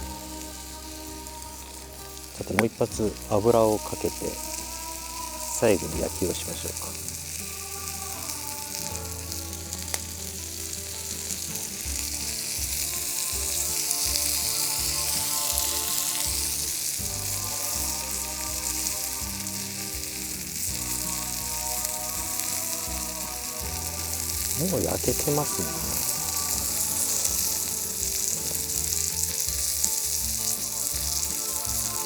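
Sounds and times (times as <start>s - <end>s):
chicken sizzling on griddle: 0.0s - 32.0s.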